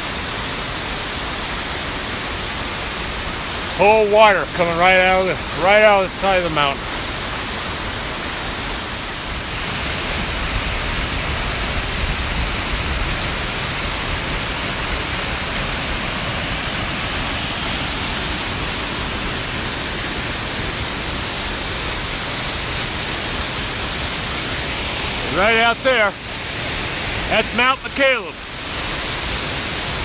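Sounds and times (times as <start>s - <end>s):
waterfall gushing: 0.0s - 30.0s.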